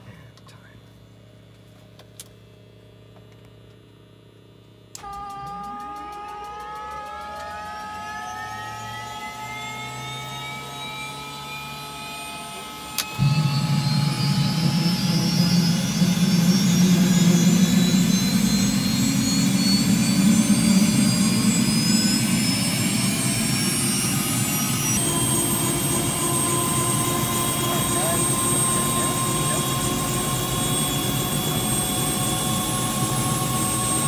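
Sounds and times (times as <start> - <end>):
turbine engine whine: 0.0 - 34.0
helicopter engine roar: 5.0 - 34.0.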